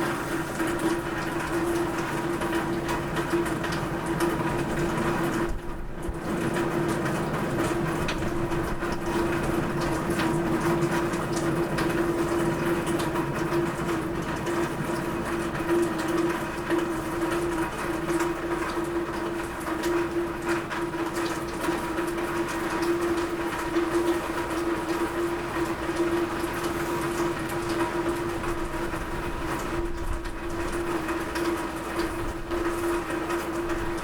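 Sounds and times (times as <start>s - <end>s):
rain on a roof: 0.0s - 34.0s.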